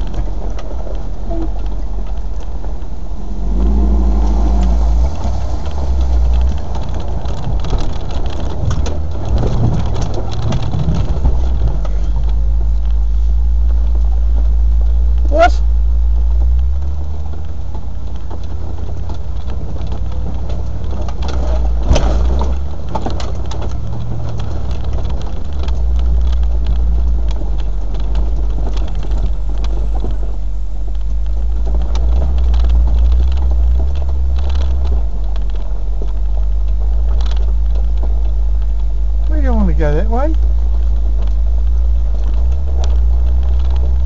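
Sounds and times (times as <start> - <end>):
knocks and rattles: 0.0 - 44.0
low engine drone: 0.0 - 44.0.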